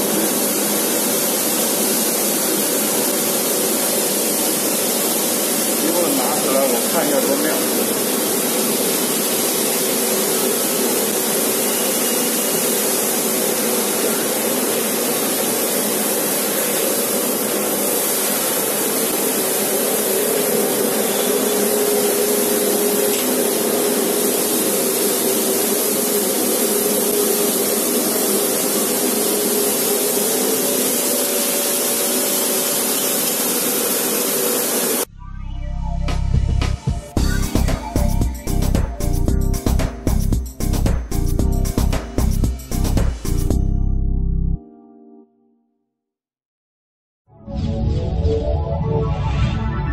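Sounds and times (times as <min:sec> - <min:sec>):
laser cutting machine hissing: 0:00.0 - 0:35.1, 0:37.0 - 0:43.5.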